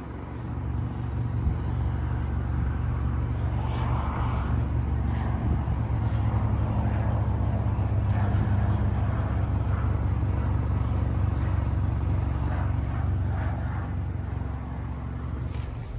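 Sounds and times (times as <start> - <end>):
airplane engine drone: 0.0 - 15.9.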